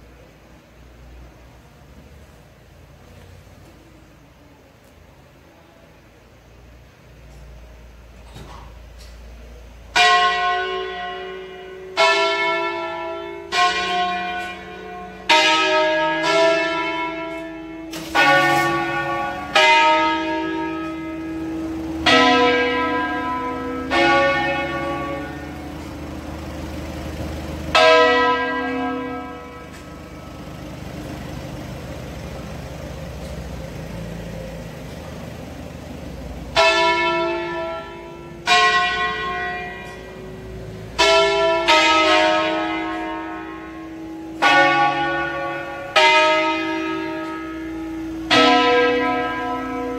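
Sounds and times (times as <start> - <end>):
church bells ringing: 9.9 - 49.9.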